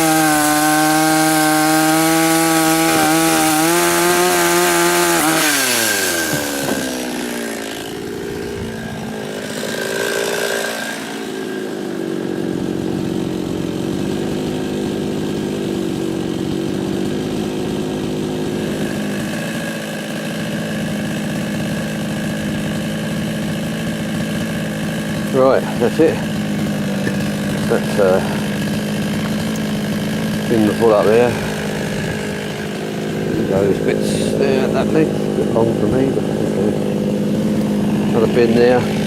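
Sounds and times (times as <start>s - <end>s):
chainsaw revving and idling: 0.0s - 39.0s.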